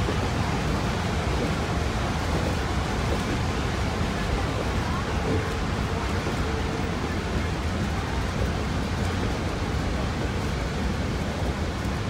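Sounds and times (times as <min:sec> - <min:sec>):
train moving heard on board: 0:00.0 - 0:12.0.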